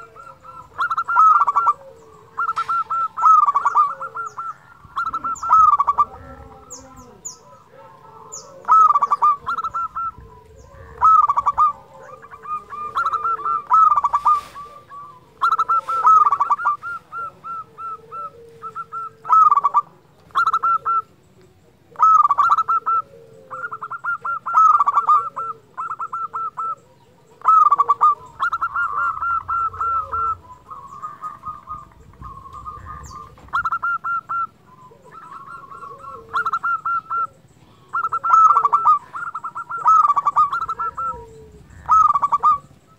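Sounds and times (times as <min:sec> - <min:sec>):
dove cooing song: 0:00.0 - 0:42.9.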